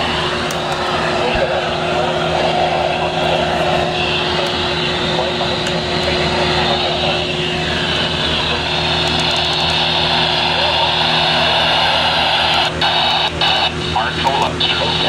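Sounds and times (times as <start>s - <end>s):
low even hum: 0.0s - 15.0s
radio static: 0.0s - 15.0s.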